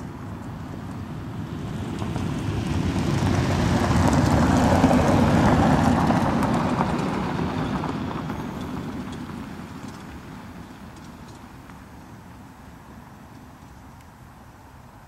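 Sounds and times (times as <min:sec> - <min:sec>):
aircraft passing overhead: 0:00.0 - 0:13.2.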